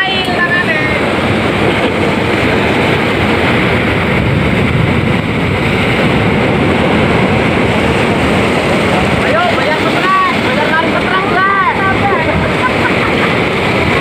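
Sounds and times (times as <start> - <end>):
sea surf breaking on rocks: 0.0 - 14.0.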